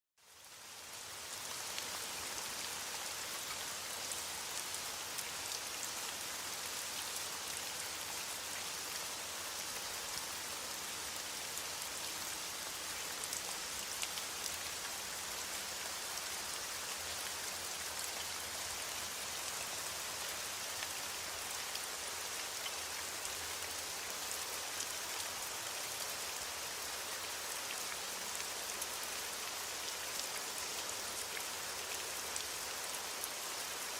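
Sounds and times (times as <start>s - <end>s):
steady rain: 0.2s - 33.9s.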